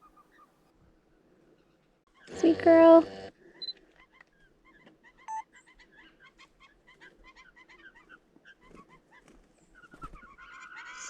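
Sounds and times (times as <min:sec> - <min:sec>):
chorus of short bird calls: 0:00.0 - 0:00.7, 0:01.4 - 0:11.0.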